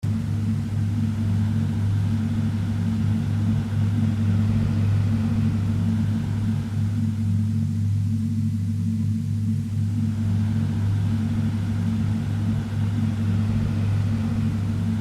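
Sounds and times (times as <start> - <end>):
droning ambient electronic music: 0.0 - 15.0.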